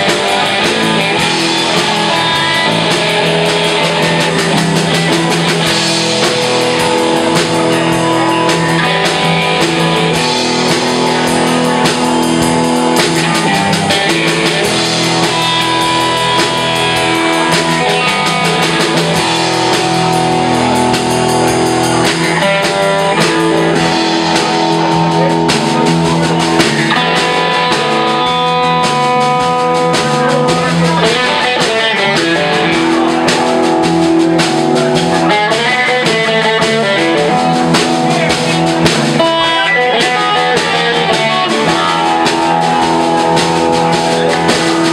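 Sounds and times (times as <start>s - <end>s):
drum kit and cymbals: 0.0s - 44.9s
electric bass: 0.0s - 44.9s
electric guitars: 0.0s - 44.9s.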